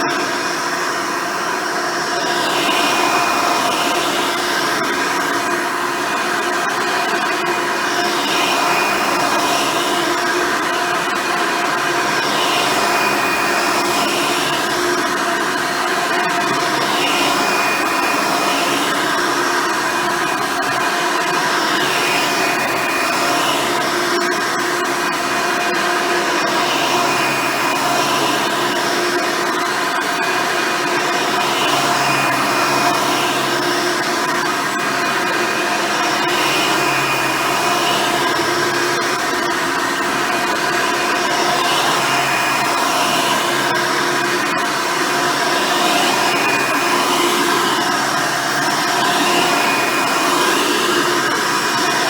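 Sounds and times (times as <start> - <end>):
upright vacuum motor whine: 0.0 - 52.0.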